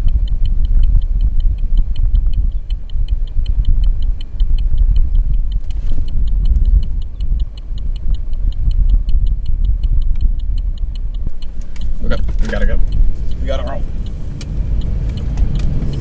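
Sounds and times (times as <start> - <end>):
car indicator ticking: 0.0 - 16.0
wind and driving noise in car: 0.0 - 16.0.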